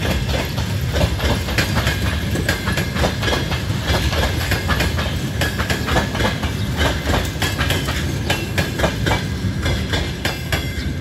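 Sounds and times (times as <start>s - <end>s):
train rumble: 0.0s - 11.0s
wheels clattering over rail joints: 0.0s - 11.0s.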